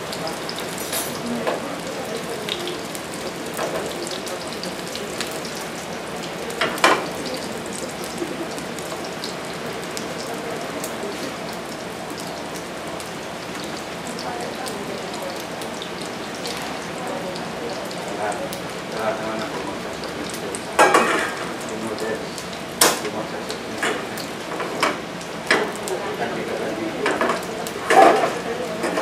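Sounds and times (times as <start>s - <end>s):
meatballs sizzling in oil: 0.0s - 29.0s.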